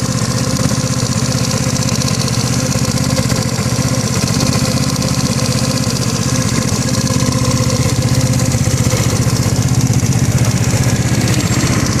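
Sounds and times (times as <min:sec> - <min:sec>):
scooter engine knocking: 0:00.0 - 0:12.0.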